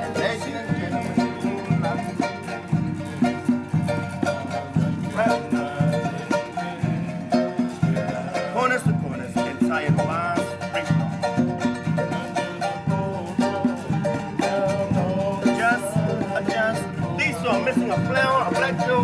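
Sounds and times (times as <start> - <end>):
hand drums beating: 0.0 - 19.0
strummed ukulele: 0.0 - 19.0.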